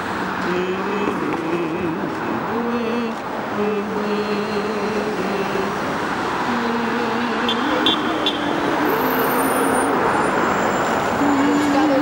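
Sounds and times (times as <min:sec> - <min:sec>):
cars passing on street: 0:00.0 - 0:12.0.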